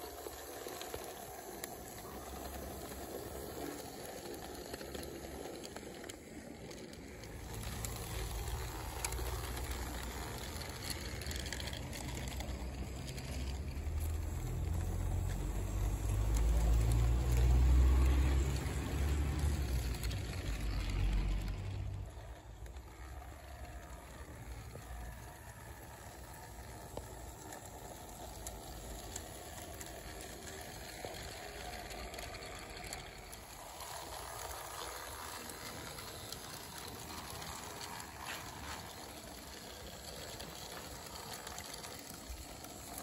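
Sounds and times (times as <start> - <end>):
model train wheels rattling on rails: 0.0 - 43.0.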